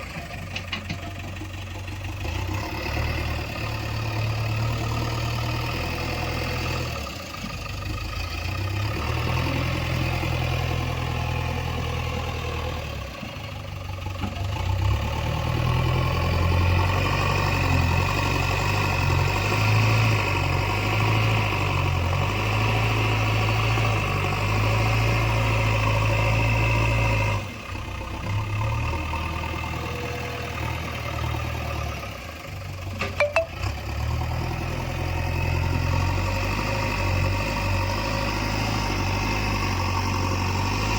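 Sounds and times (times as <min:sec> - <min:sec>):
diesel engine revving: 0:02.1 - 0:07.2, 0:08.4 - 0:13.3, 0:14.4 - 0:32.8, 0:33.6 - 0:40.9.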